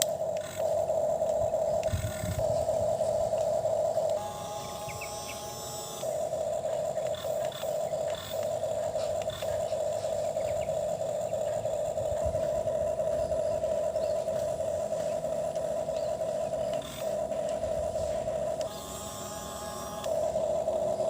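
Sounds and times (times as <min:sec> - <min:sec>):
toy excavator motor whine: 0:00.0 - 0:21.0.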